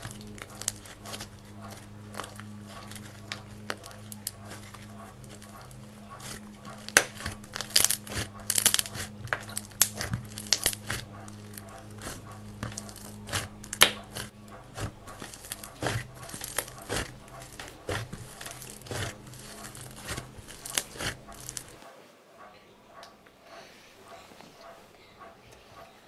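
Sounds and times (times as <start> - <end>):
clay slime crackling and popping: 0.0 - 21.8
steady low hum: 0.0 - 26.0.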